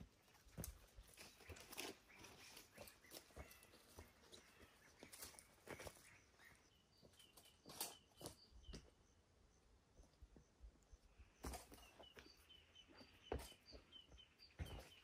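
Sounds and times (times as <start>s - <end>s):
footsteps on dry grass and stones: 0.0s - 9.0s, 11.2s - 15.0s
small bird chirping: 1.0s - 15.0s.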